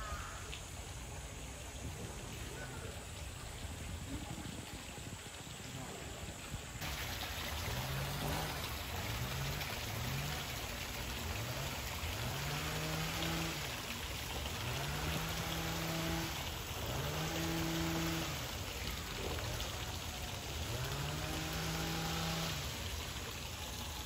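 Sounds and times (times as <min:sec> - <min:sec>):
pool water splashing: 0:00.0 - 0:24.0.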